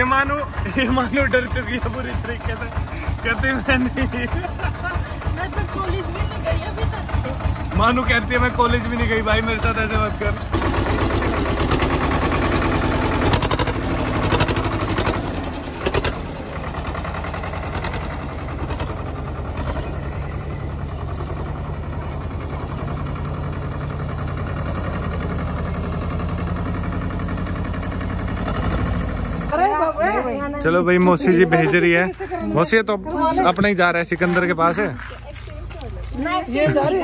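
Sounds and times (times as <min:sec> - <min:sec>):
tractor diesel engine rumble: 0:00.0 - 0:37.0.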